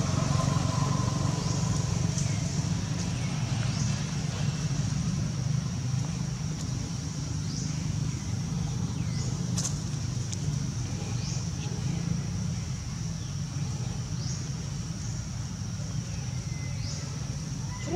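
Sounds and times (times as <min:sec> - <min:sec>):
outdoor background rumble: 0:00.0 - 0:17.9.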